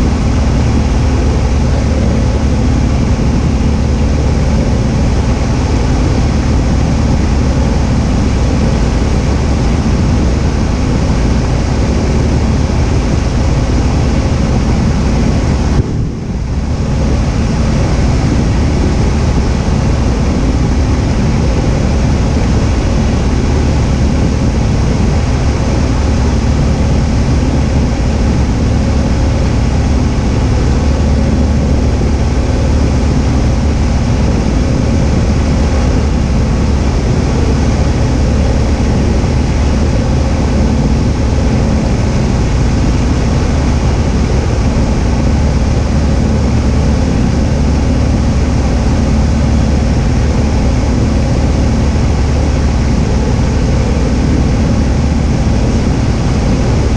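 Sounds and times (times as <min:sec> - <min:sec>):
light aircraft engine droning: 0:00.0 - 0:56.9.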